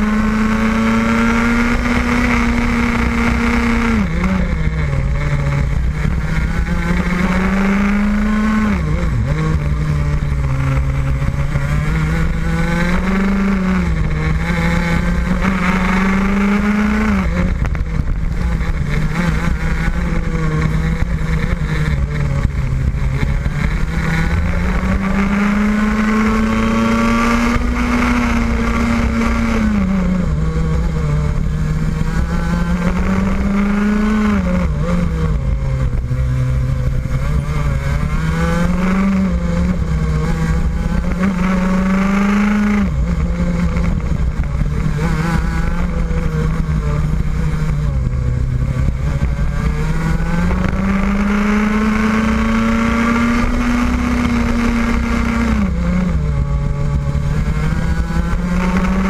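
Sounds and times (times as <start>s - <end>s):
kart engine at racing speed: 0.0s - 59.0s.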